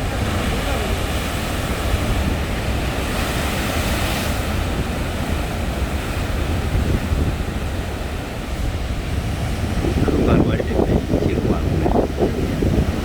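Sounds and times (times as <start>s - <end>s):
sea waves breaking on shore: 0.0s - 13.0s
wind rumble on microphone: 0.0s - 13.0s.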